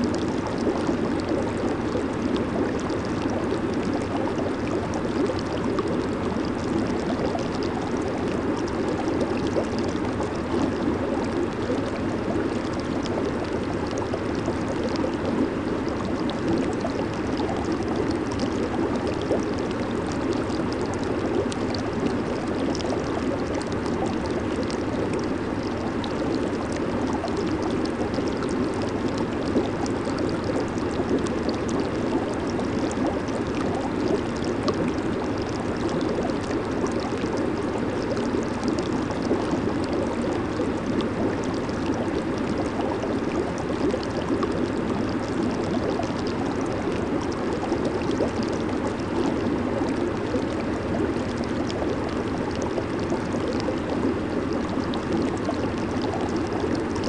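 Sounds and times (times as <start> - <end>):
jacuzzi water bubbling: 0.0 - 57.0.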